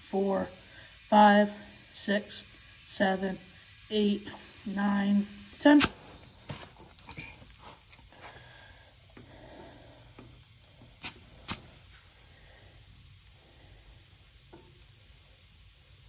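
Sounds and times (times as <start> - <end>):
air hissing from tire valve: 0.0 - 16.0.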